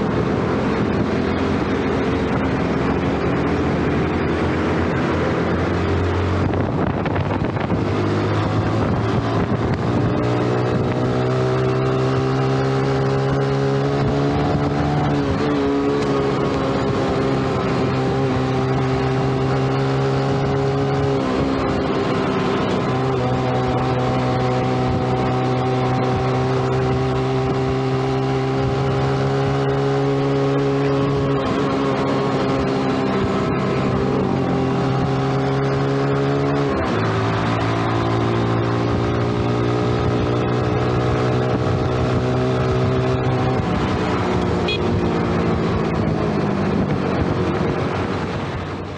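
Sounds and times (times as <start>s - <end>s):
motorcycle engine cruising: 0.0s - 48.9s
wind rushing over microphone: 0.0s - 48.9s.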